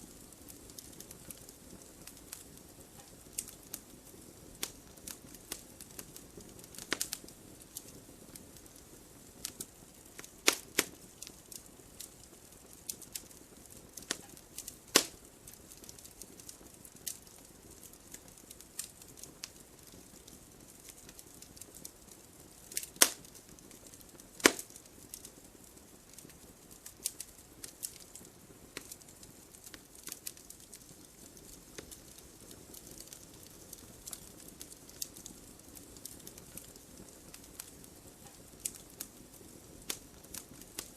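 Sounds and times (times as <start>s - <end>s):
faint low hiss: 0.0s - 40.9s
wood fire crackling and popping: 0.0s - 40.9s.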